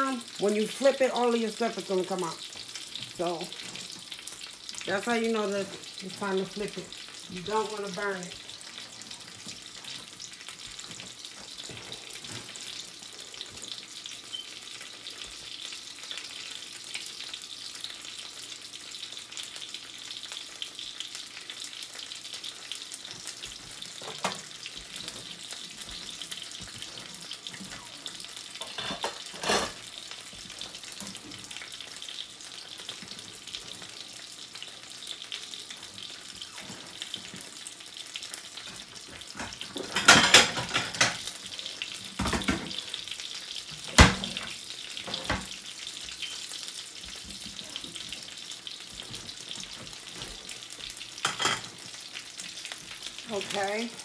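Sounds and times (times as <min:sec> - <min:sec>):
food sizzling in a skillet: 0:00.0 - 0:54.0.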